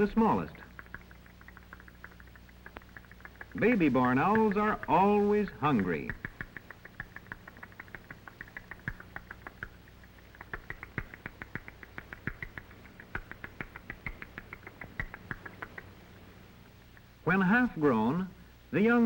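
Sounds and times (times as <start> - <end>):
young owls chirping: 0.0 - 17.6
low film soundtrack hum: 0.0 - 19.0.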